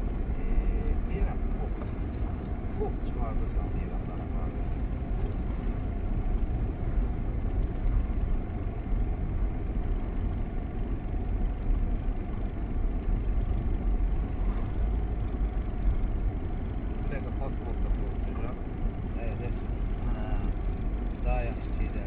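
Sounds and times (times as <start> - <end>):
car engine rumble: 0.0 - 22.0
road noise: 0.0 - 22.0.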